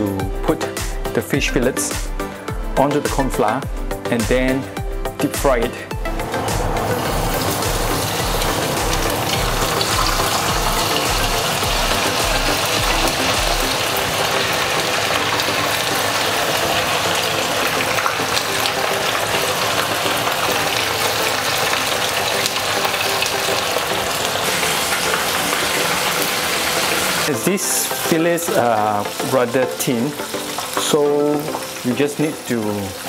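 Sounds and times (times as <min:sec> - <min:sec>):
fish deep-frying in oil: 0:06.2 - 0:33.0.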